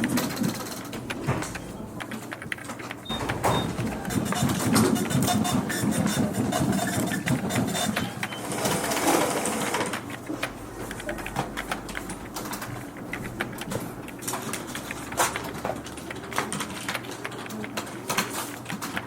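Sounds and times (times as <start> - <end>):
keyboard clicks: 0.0 - 19.0
printer mechanism running: 0.0 - 19.0.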